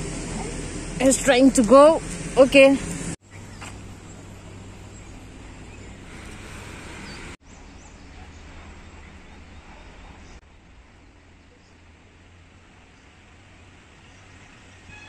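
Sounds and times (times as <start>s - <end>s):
roadside rumble with hiss: 0.0s - 15.0s.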